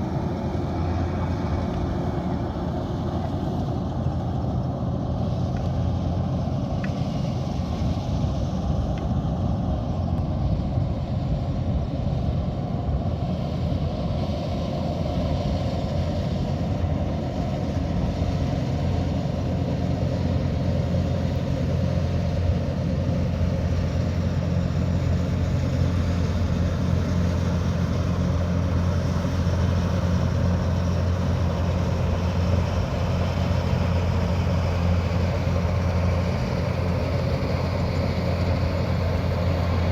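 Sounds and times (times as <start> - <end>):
combine harvester working: 0.0 - 39.9.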